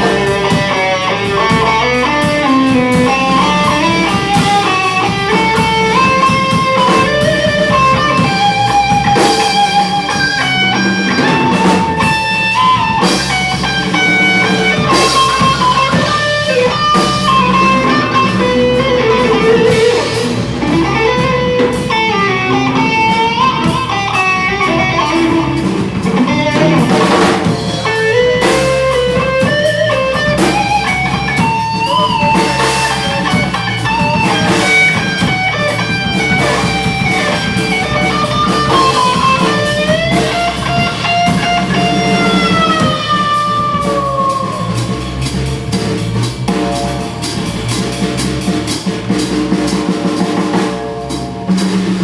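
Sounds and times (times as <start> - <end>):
bass: 0.0 - 52.0
drums: 0.0 - 52.0
lead guitar melody: 0.0 - 52.0.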